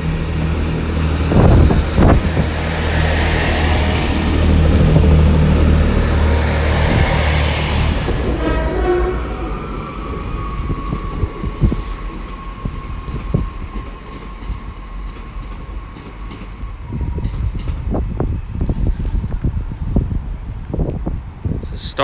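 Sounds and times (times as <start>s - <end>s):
train whine: 0.0s - 20.6s
low train rumble: 0.0s - 22.0s.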